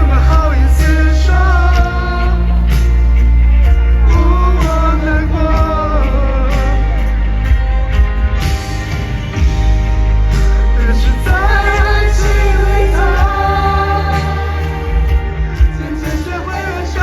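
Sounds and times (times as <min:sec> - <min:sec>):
person singing: 0:00.0 - 0:07.4, 0:10.6 - 0:17.0
deep sustained bass: 0:00.0 - 0:17.0
live pop band playing: 0:00.0 - 0:17.0
steady drum beat: 0:00.0 - 0:17.0.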